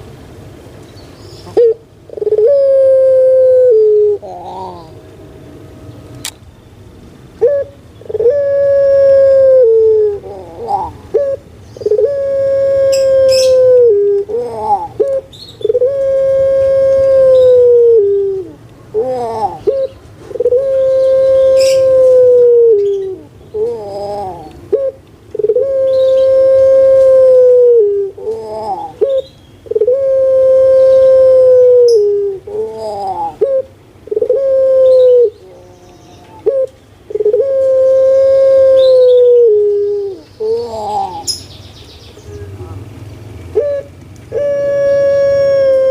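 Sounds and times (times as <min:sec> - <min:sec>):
dove cooing: 0:01.4 - 0:05.1, 0:07.4 - 0:41.4, 0:43.5 - 0:45.9.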